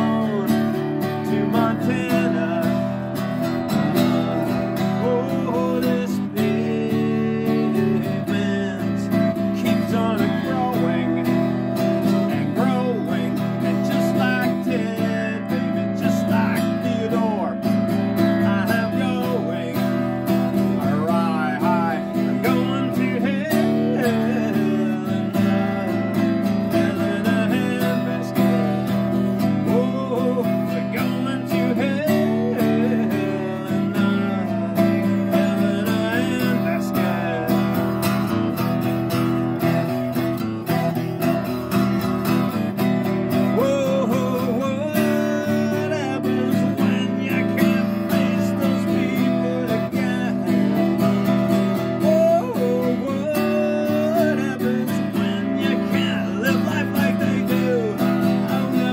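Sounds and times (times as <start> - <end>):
acoustic guitar strumming: 0.0 - 58.9.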